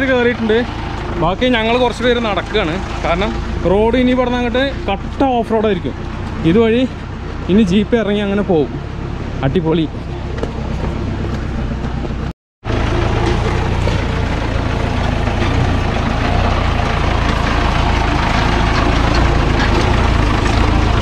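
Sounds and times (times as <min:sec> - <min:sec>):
engine rumbling: 0:00.0 - 0:21.0.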